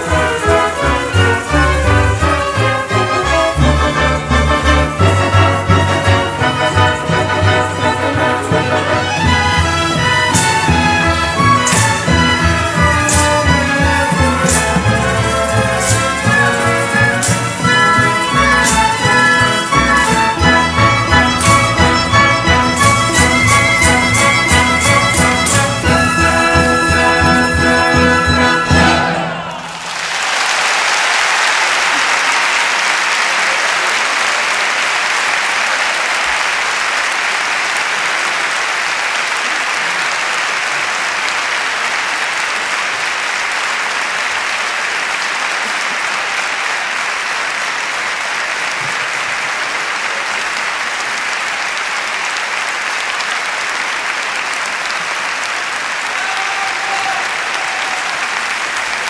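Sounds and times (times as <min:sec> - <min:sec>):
audience applauding: 0:00.0 - 0:59.0.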